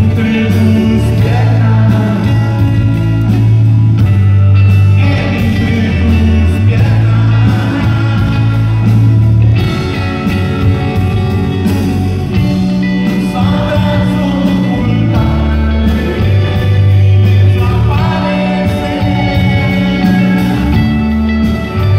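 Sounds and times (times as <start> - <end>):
person singing: 0.0 - 3.1, 4.8 - 11.4, 12.9 - 21.9
bass guitar: 0.0 - 21.9
drum kit: 0.0 - 21.9
electric guitar: 0.0 - 21.9.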